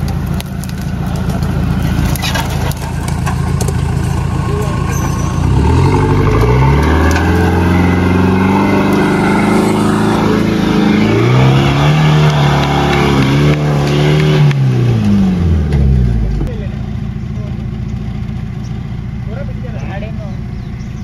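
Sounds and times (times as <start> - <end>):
engine revving under load: 1.4 - 18.8.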